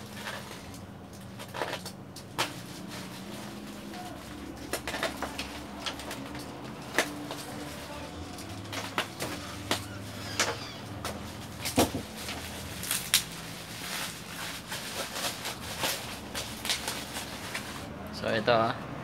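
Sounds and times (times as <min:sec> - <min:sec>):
bubble wrap crinkling and crackling: 0:00.0 - 0:17.9.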